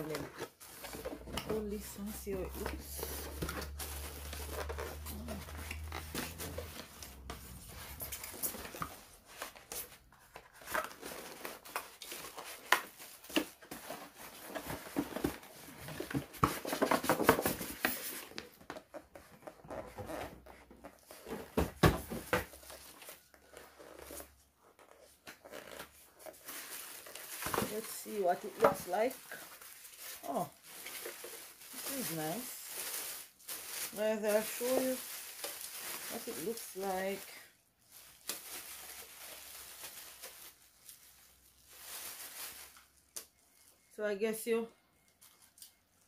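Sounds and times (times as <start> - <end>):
cardboard and plastic rustling: 0.0 - 43.9.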